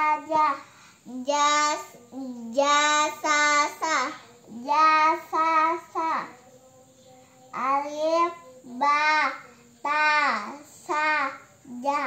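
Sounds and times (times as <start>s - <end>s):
girl chanting syllables: 0.0s - 12.0s.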